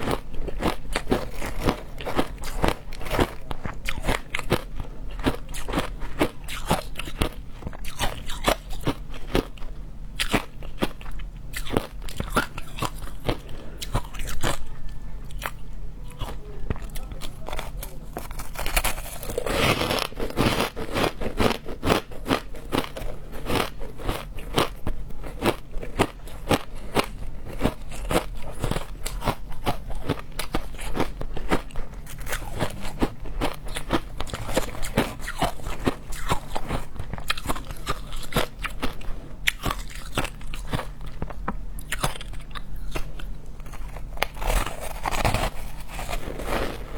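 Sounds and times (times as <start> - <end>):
ice being chewed crunching: 0.0 - 46.9.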